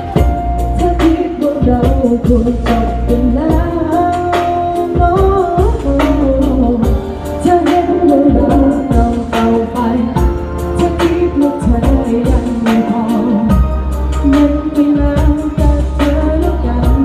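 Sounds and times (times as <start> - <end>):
pop backing music with beat: 0.0 - 17.0
woman singing into microphone: 0.0 - 17.0.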